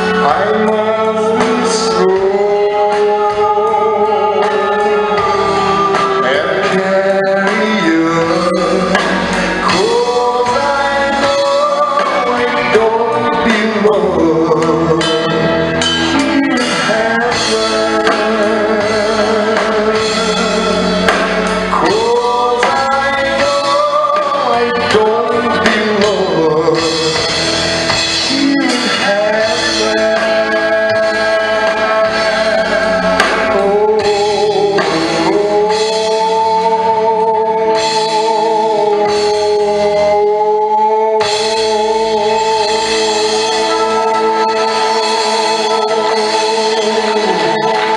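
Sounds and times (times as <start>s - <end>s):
instrumental backing with drums: 0.0s - 47.9s
person singing: 0.0s - 47.9s.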